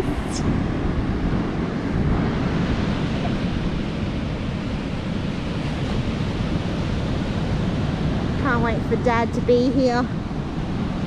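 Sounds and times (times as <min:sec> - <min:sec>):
ocean surf washing ashore: 0:00.0 - 0:11.0
wind rumbling on microphone: 0:00.0 - 0:11.0.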